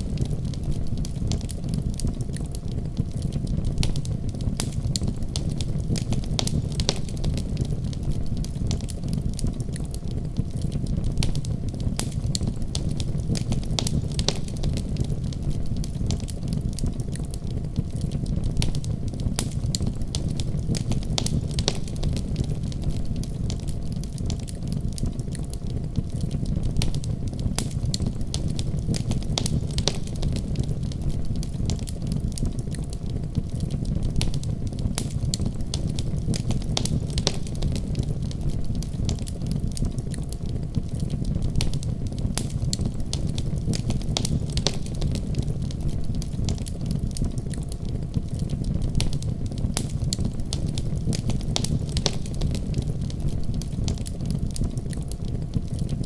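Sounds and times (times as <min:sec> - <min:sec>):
burning wood crackling and popping: 0:00.0 - 0:56.0
fire flames rumbling: 0:00.0 - 0:56.0.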